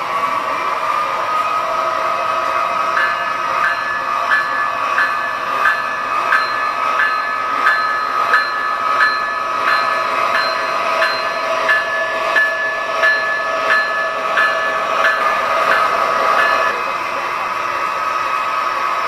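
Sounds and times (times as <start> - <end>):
model train whine: 0.0 - 19.0
train wheels clicking on track: 0.0 - 19.0.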